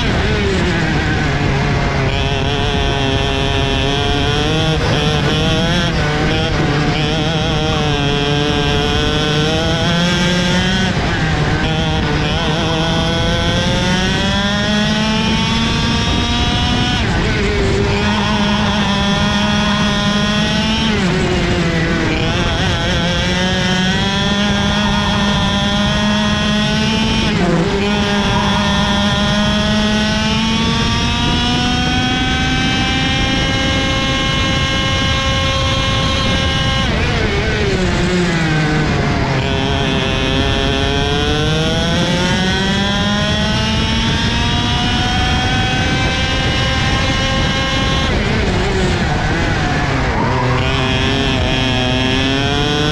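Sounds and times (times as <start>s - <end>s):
kart engine at full throttle: 0.0s - 52.9s.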